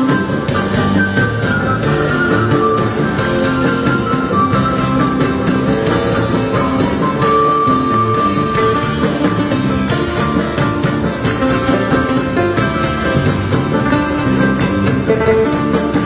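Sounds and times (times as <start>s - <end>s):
live band folk dance music: 0.0s - 16.0s.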